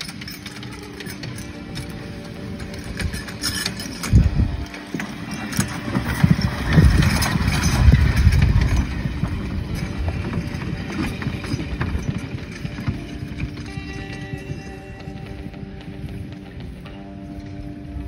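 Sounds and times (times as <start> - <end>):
carriage wheels rumbling over turf: 0.0 - 18.0
horses' hooves: 0.0 - 18.0.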